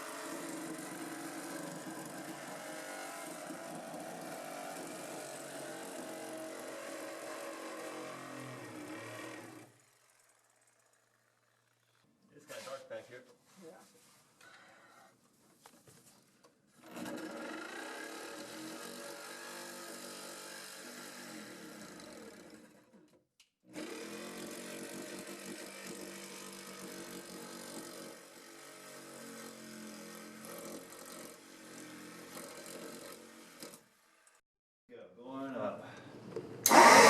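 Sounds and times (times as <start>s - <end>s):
power saw cutting fiberglass: 0.0s - 13.0s, 16.8s - 23.0s, 23.7s - 34.3s, 36.6s - 37.0s.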